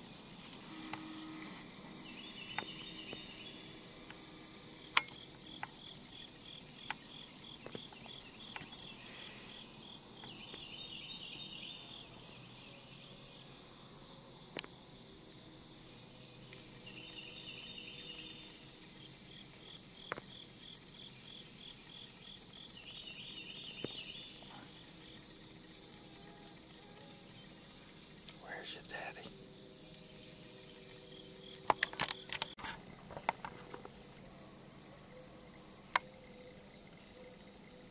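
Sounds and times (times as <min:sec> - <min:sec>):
insects steady high trill: 0:00.0 - 0:37.9
pulsed cricket chirping: 0:00.0 - 0:37.9.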